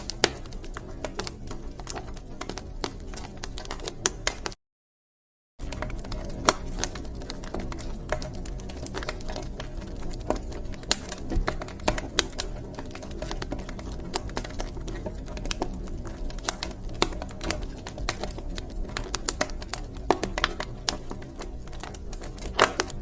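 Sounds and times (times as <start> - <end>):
wood fire crackling: 0.0 - 4.6, 5.6 - 23.0.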